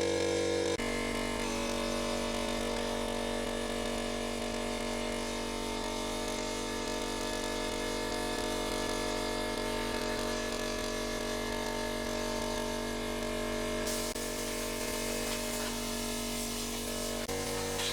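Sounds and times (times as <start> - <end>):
air compressor buzzing hum: 0.0 - 17.9.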